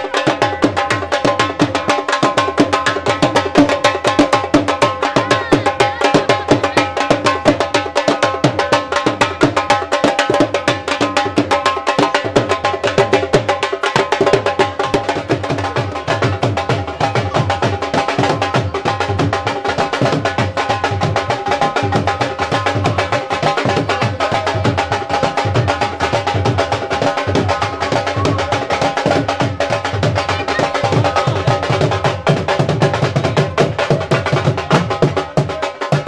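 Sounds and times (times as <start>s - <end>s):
fast drumming with music: 0.0s - 36.0s.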